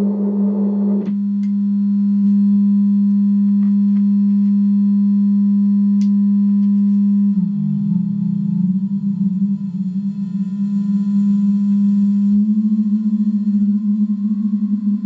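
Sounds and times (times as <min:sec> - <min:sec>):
low electronic tone: 0:00.0 - 0:15.0.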